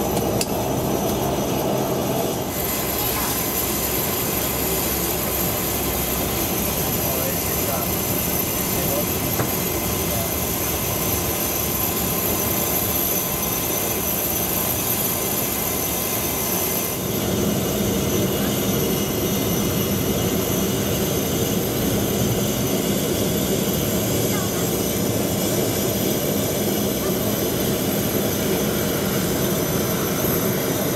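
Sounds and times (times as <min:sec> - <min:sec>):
propeller drone: 0:00.0 - 0:30.9
turboprop engine whine: 0:00.0 - 0:30.9.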